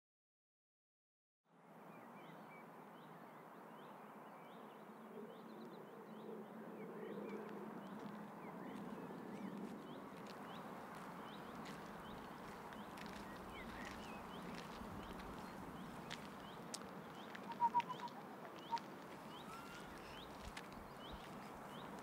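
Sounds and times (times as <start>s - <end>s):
small birds chirping: 3.8s - 22.0s.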